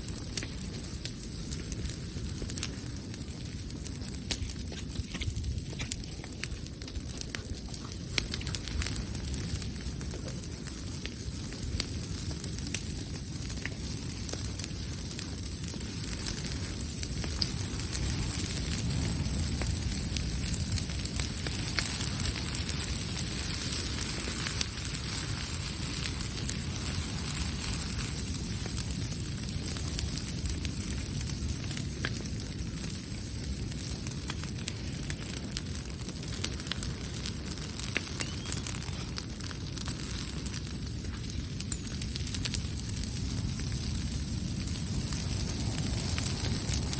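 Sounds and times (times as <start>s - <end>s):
campfire crackling and popping: 0.0s - 46.9s
low rush of flames: 0.0s - 46.9s.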